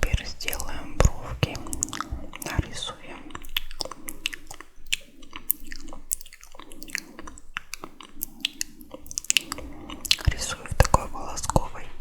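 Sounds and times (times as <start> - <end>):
tongue clicks: 0.0 - 11.8
wet lip smacks: 0.0 - 11.8.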